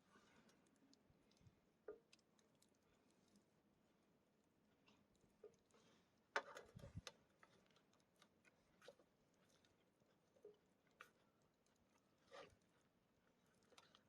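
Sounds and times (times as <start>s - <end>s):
faint small clicks and crackles: 0.0s - 14.0s.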